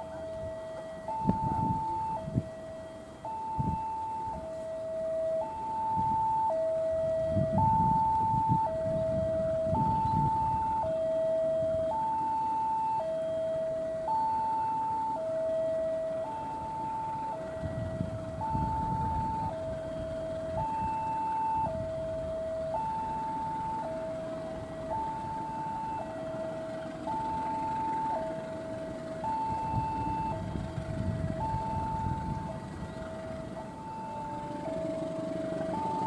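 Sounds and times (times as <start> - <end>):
level crossing two-tone alarm: 0.0 - 36.0
locomotive rumble: 0.0 - 36.0.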